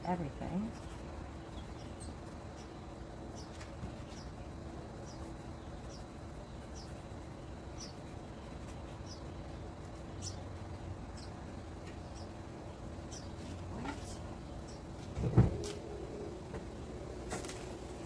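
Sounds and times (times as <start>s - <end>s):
bird chirping: 0.0s - 15.0s
faint steady hum: 0.0s - 18.0s.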